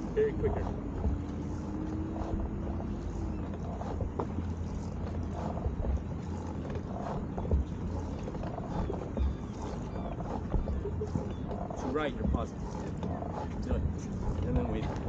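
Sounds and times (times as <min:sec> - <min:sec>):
paddle knocks: 0:00.0 - 0:15.0
water splashing from paddling: 0:00.0 - 0:15.0
wind on microphone: 0:00.0 - 0:15.0.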